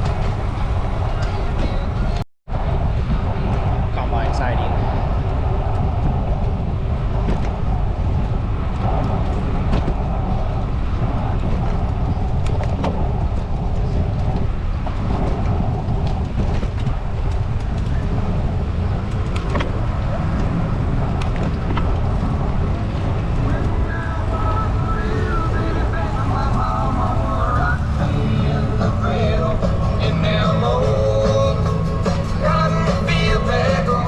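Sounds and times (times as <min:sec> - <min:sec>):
bicycle road noise: 0:00.0 - 0:34.0
wind rumble: 0:00.0 - 0:34.0.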